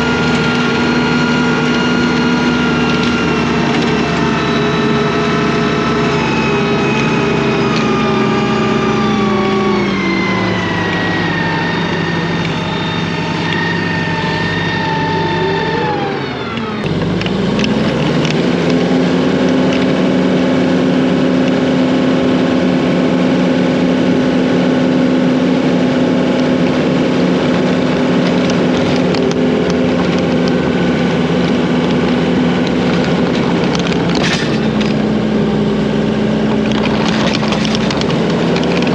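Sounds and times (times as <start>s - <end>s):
diesel engine running hard: 0.0s - 38.9s.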